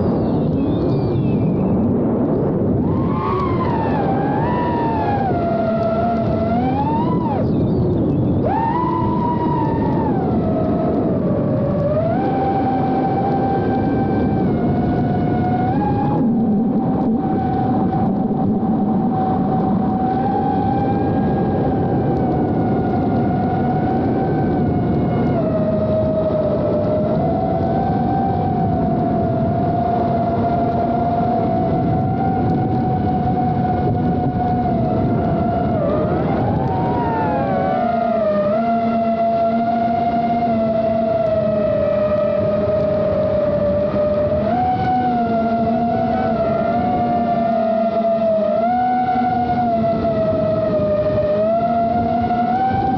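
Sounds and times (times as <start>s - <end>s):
quadcopter motors whining: 0.0s - 52.9s
steady rushing noise: 0.0s - 52.9s.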